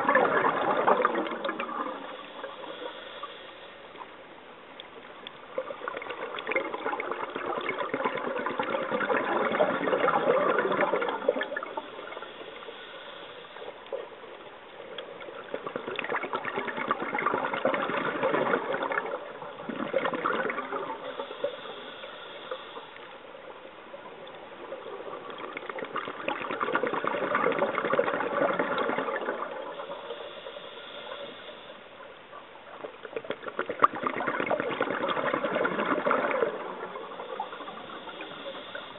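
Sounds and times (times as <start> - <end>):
underwater exhaust bubbles gurgling: 0.0 - 38.9.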